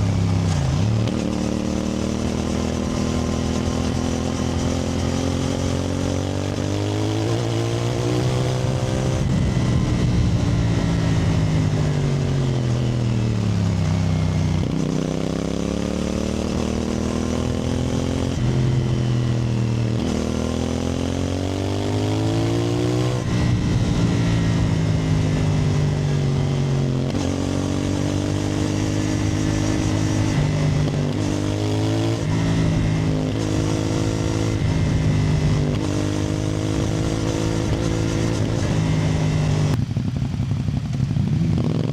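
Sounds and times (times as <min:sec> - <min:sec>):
motorcycle engine revving through gears: 0:00.0 - 0:41.9.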